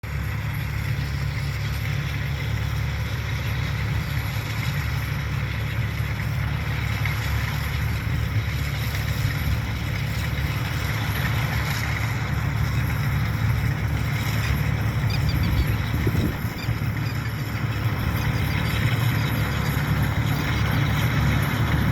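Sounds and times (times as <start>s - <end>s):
diesel engine rumbling: 0.0s - 21.9s.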